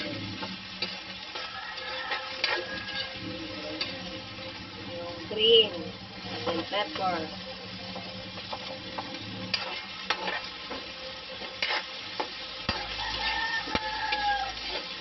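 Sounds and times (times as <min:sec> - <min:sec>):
utensil knocking and scraping wok: 0:00.0 - 0:15.0
vegetables sizzling in oil: 0:00.0 - 0:15.0.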